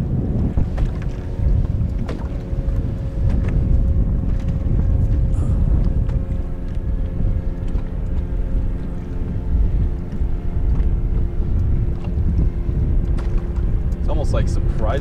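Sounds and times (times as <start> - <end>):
boat motor humming: 0.0 - 15.0
wind buffeting microphone: 0.0 - 15.0.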